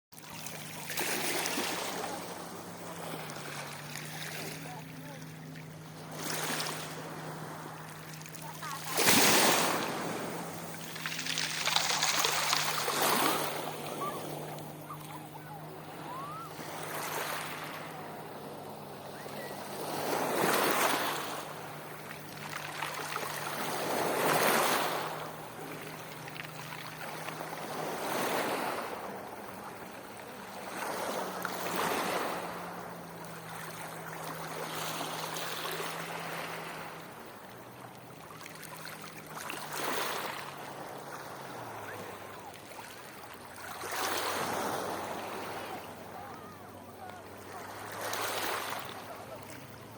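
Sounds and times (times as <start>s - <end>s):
waves breaking on shore: 0.1s - 49.9s.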